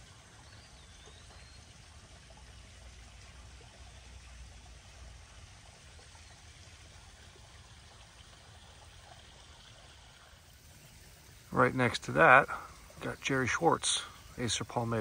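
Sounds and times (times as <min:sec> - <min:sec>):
running water from waterfall: 0:00.0 - 0:15.0.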